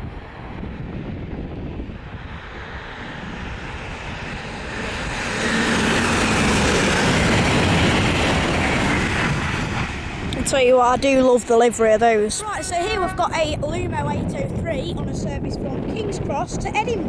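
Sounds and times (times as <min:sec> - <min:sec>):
high-speed train rushing: 0:00.0 - 0:17.0.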